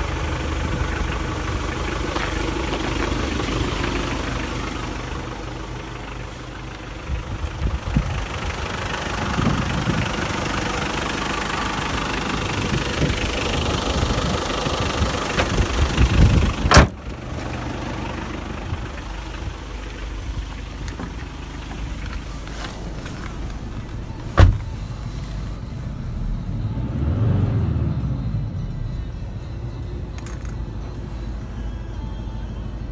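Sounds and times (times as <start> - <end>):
van engine idling: 0.0 - 32.9.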